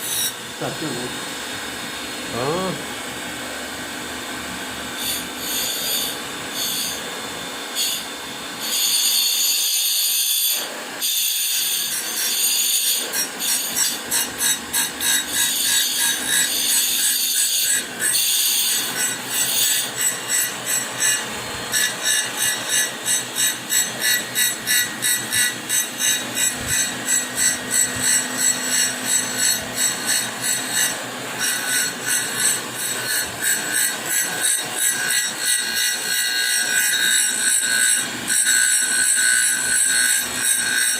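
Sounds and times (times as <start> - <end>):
grinder wheel grinding steel: 0.0 - 3.1, 3.7 - 40.9.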